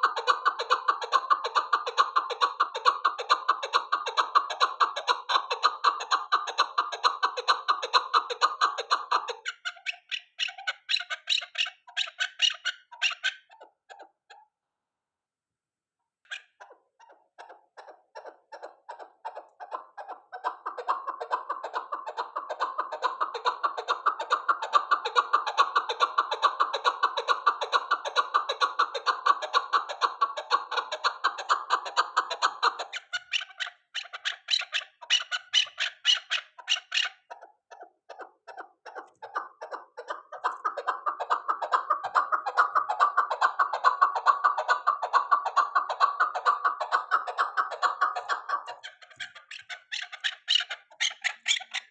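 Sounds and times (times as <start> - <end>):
partridge clucking calls: 0.0 - 14.6, 16.2 - 51.9.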